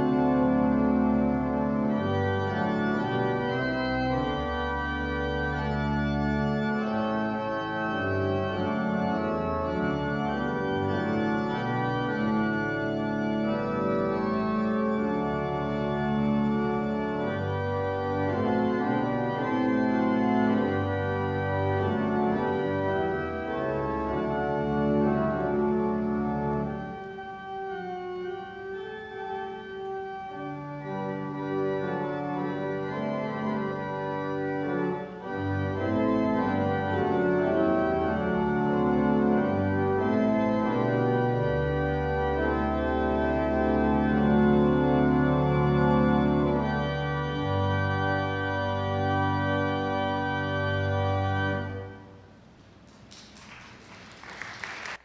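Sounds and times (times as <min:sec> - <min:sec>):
organ playing slow chords: 0:00.0 - 0:55.0.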